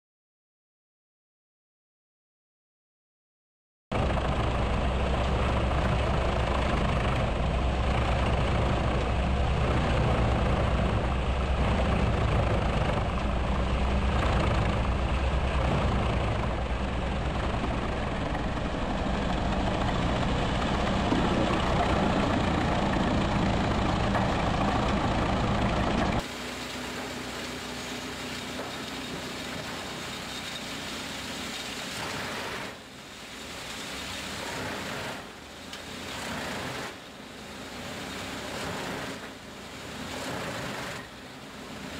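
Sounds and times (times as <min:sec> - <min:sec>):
deep engine drone: 0:03.9 - 0:41.9
wood chipper chipping logs: 0:03.9 - 0:41.9.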